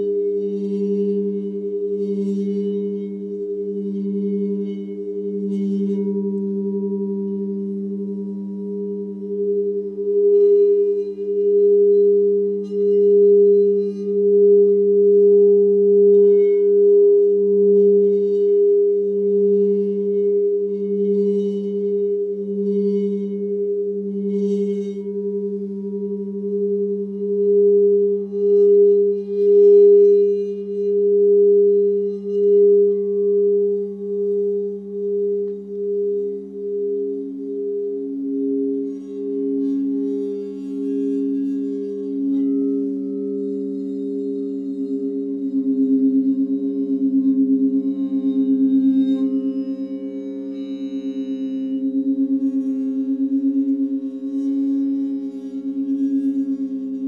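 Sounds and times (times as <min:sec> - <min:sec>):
faint high tinkling notes: 0:00.0 - 0:57.0
pulsing lower tone: 0:00.0 - 0:57.0
sustained pure tones: 0:00.0 - 0:57.0.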